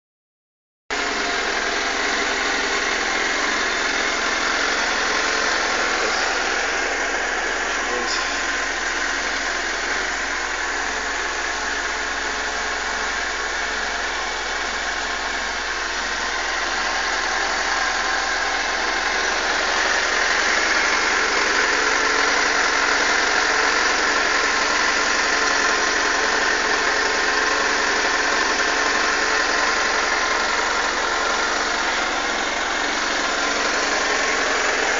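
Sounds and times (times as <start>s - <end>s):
motorcycle engine idling roughly: 0.9s - 34.9s.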